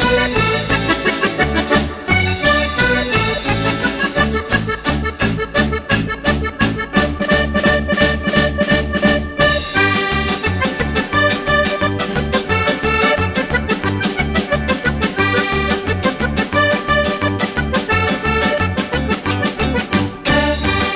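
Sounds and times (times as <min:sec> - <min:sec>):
music with bass beat: 0:00.0 - 0:20.9.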